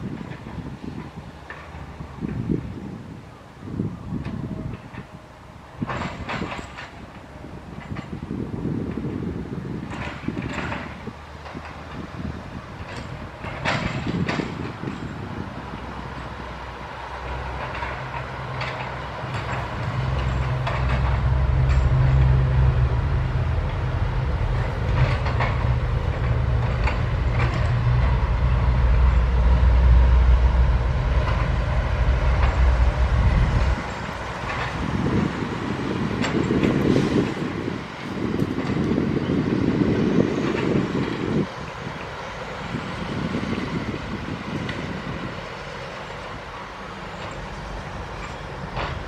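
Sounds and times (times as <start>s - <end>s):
clanks and scraping of excavator gear: 0.0s - 2.6s, 4.1s - 5.2s, 5.8s - 49.0s
excavator diesel engine drone: 0.0s - 49.0s.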